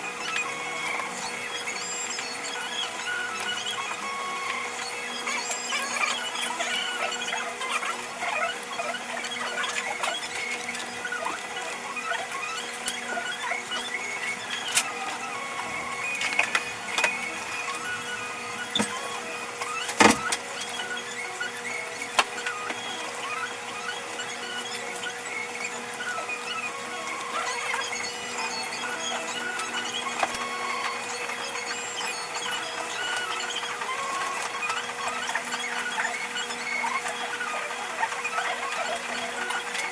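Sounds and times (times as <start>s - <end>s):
high gliding squeaks: 0.2s - 39.9s.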